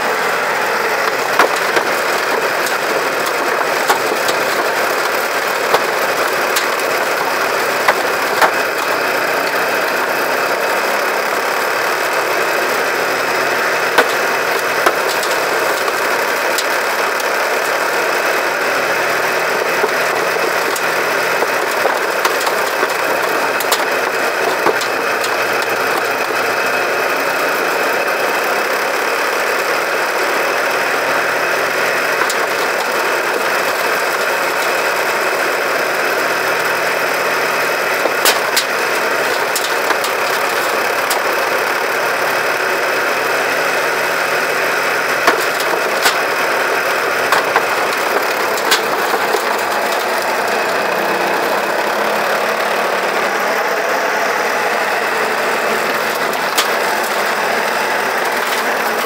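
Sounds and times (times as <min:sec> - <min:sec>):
shredder machine running: 0:00.0 - 0:59.0.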